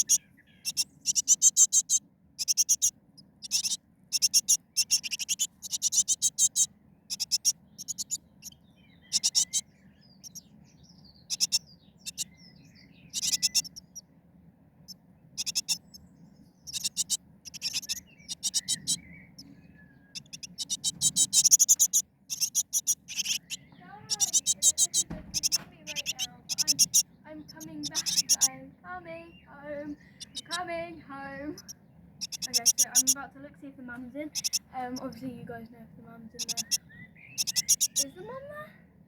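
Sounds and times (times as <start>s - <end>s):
small birds chirping: 0.0s - 38.7s.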